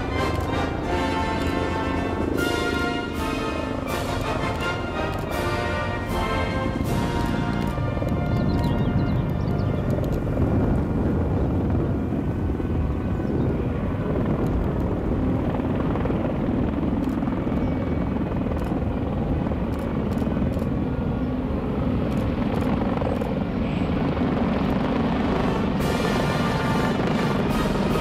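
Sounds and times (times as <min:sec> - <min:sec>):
helicopters flying over: 0:00.0 - 0:28.0.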